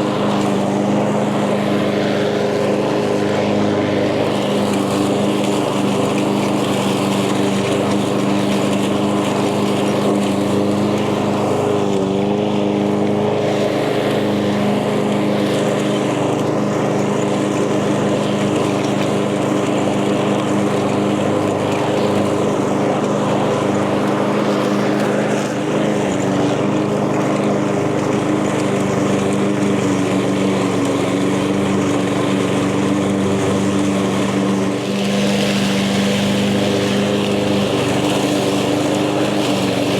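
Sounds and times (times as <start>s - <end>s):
lawn mower engine cutting grass: 0.0s - 39.9s.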